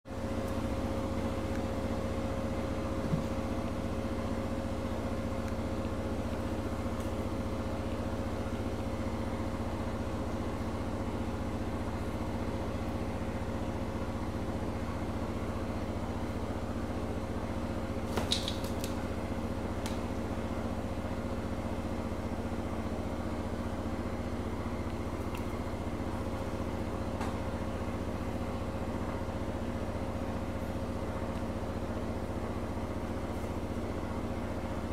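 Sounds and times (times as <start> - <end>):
low machine hum: 0.1 - 34.9.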